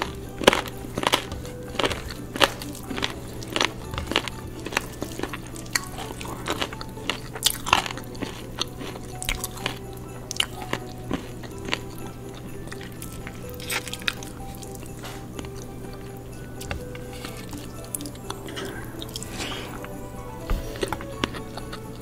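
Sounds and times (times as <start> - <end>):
chewing: 0.0 - 22.0.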